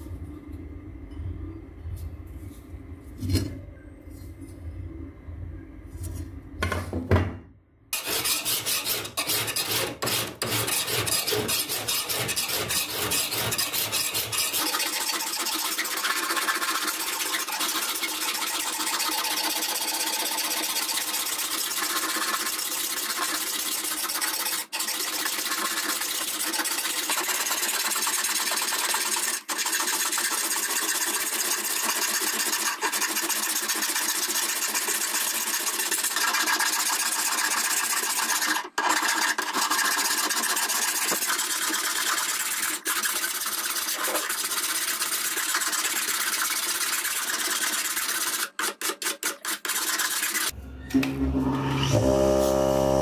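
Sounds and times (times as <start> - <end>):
file scraping steel blade: 8.0 - 50.6.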